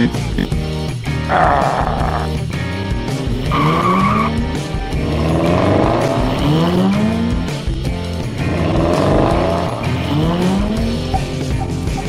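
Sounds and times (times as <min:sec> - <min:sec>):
background music: 0:00.0 - 0:12.0
car engine revving: 0:00.0 - 0:12.0.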